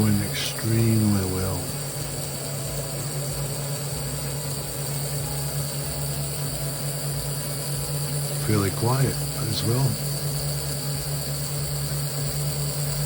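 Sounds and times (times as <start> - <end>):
model locomotive motor hum: 0.0 - 13.0.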